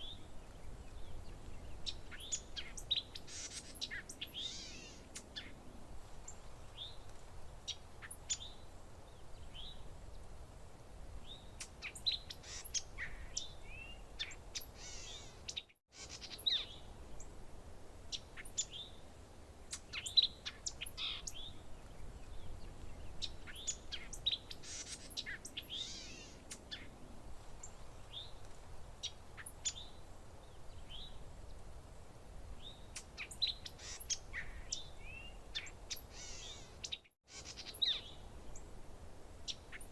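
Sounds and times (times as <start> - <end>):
faint low hiss: 0.0 - 39.9
songbirds chirping: 0.0 - 39.9.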